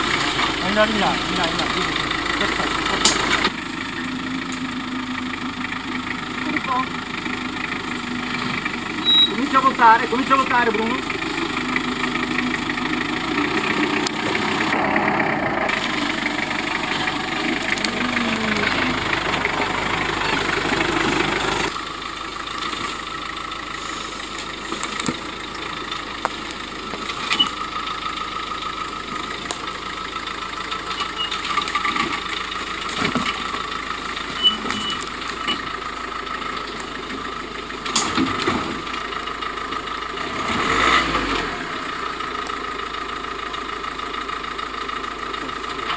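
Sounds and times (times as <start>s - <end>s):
car engine at low revs: 0.0s - 45.9s
car engine idling: 0.0s - 45.9s.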